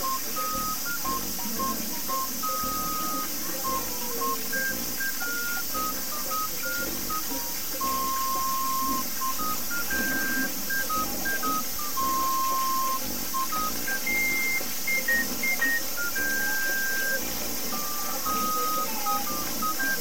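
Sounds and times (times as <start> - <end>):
electronic beeping melody: 0.0 - 20.0
steady high hiss: 0.0 - 20.0.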